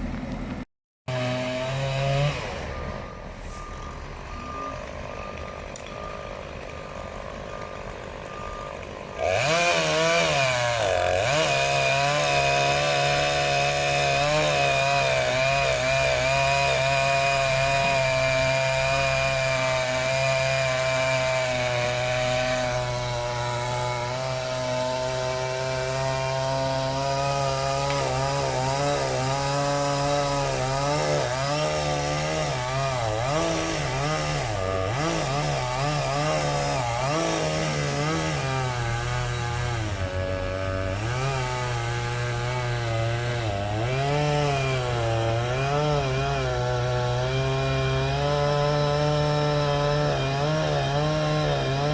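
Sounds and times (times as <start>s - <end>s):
chainsaw running at high revs: 1.1s - 2.9s, 8.5s - 51.9s.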